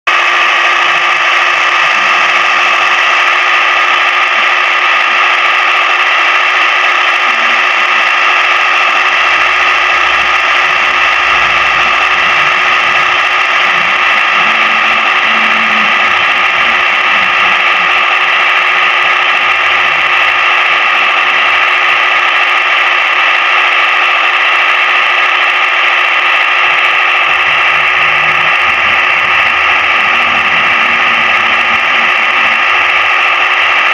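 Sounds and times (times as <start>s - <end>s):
high-pitched motor drone: 0.1s - 33.9s.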